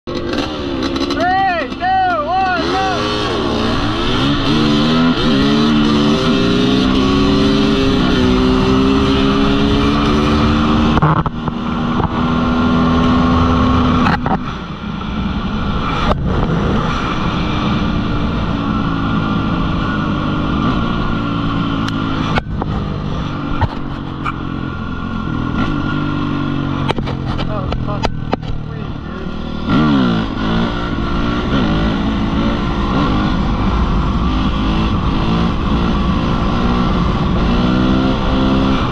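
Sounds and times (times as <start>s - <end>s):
dirt bike engine accelerating: 0.1s - 38.9s
wind noise: 3.2s - 38.9s.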